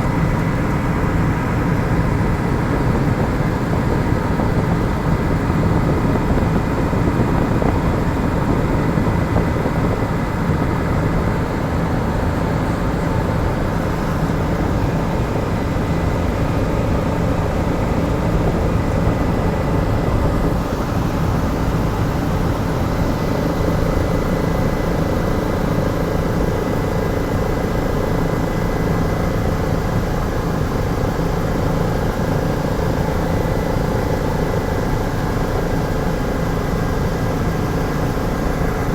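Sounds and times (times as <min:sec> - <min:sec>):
helicopter rotor and engine rumble: 0:00.0 - 0:38.9.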